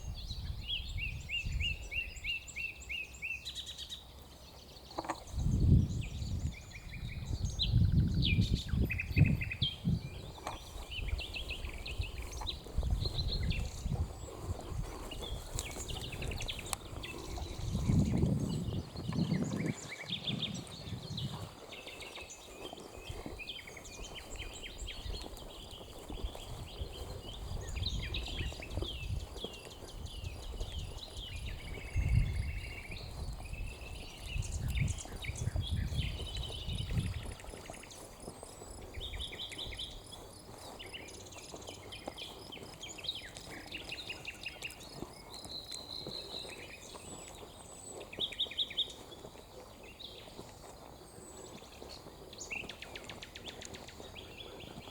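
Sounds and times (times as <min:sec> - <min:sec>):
songbirds chirping and twittering: 0:00.0 - 0:54.9.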